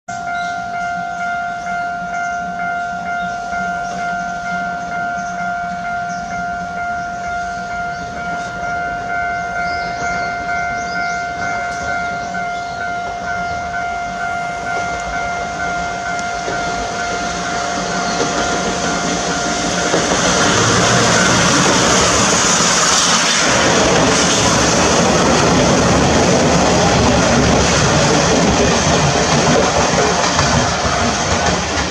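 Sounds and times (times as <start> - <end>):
electronic warning tone: 0.1 - 30.4
train rumble: 0.1 - 31.9.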